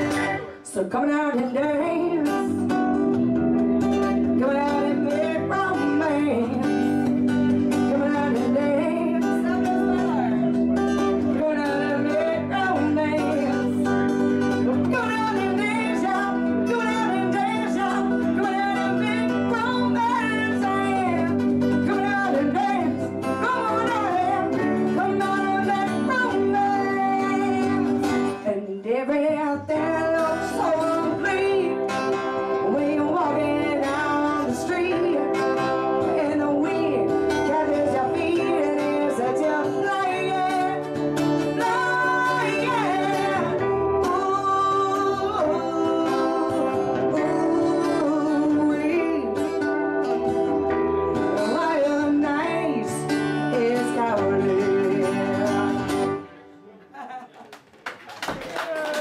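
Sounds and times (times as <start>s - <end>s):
keyboard chords: 0.0s - 0.7s, 1.6s - 28.7s, 29.3s - 56.8s
strummed acoustic guitar: 0.0s - 28.6s, 29.6s - 56.6s
plucked string instrument: 0.0s - 29.1s, 29.7s - 56.8s
woman singing: 0.0s - 56.2s.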